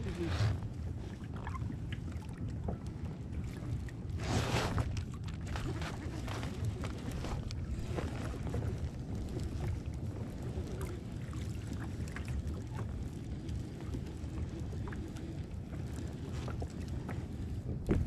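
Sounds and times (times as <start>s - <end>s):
waves lapping against hull: 0.0s - 18.0s
wind on microphone: 0.0s - 18.0s.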